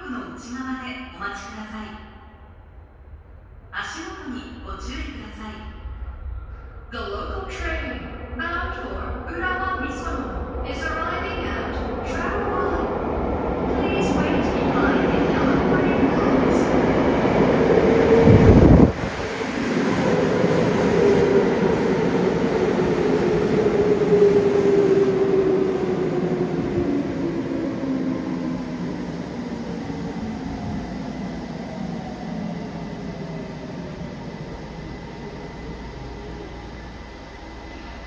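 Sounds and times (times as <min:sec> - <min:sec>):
subway train rumble: 0:00.0 - 0:38.0.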